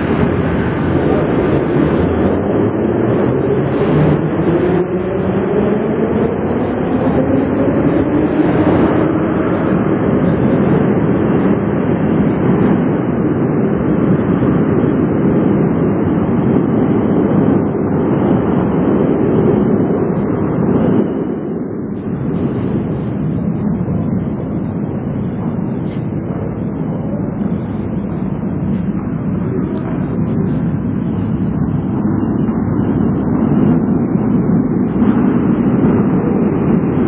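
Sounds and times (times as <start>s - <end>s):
metro train rumble: 0.0s - 37.0s.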